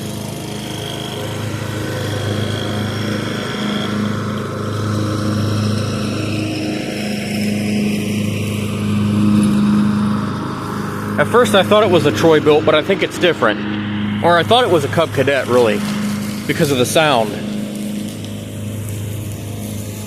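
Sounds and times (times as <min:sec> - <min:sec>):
riding lawn mower engine: 0:00.0 - 0:20.0.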